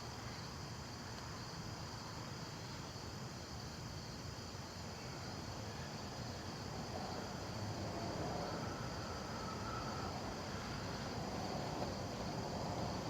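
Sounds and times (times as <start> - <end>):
insects chirring: 0.0 - 13.0
steady low hiss: 0.0 - 13.0.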